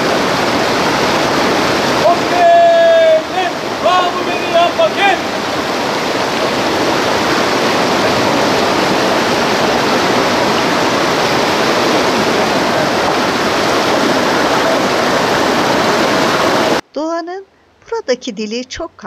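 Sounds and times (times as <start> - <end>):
river rushing: 0.0 - 16.8.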